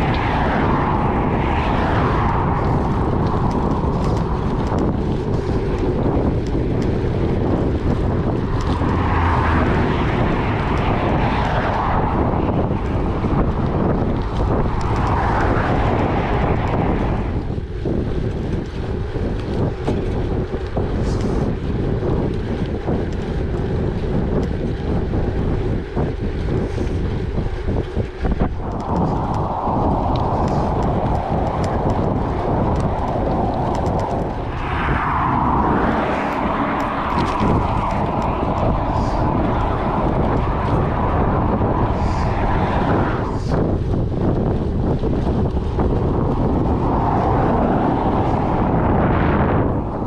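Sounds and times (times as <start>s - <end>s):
bike tyres rolling on gravel: 0.0s - 50.0s
broad rushing noise: 0.0s - 50.0s
wind buffeting microphone: 0.0s - 50.0s.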